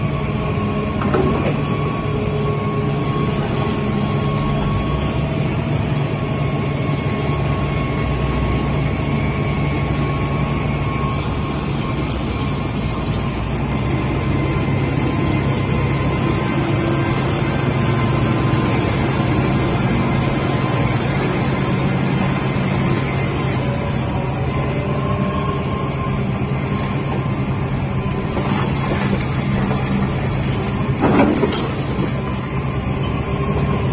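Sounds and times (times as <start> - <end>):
excavator engine and hydraulics: 0.0 - 33.9.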